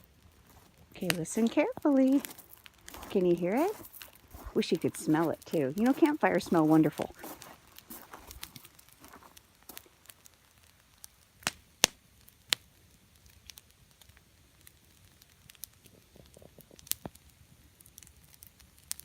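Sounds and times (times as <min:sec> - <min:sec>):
campfire crackling: 0:00.0 - 0:19.0
fire sharp pops: 0:00.0 - 0:19.0.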